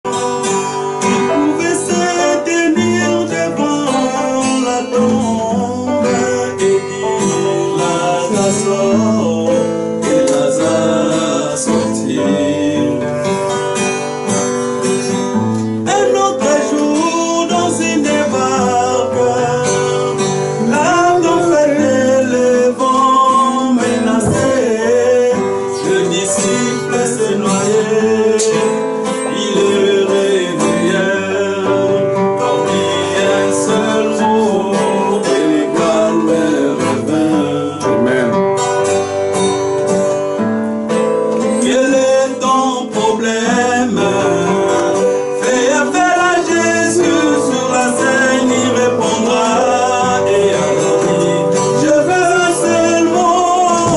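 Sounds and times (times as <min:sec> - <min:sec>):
man singing: 0:00.0 - 0:13.5, 0:15.8 - 0:38.6, 0:41.4 - 0:53.9
acoustic guitar: 0:00.0 - 0:53.9.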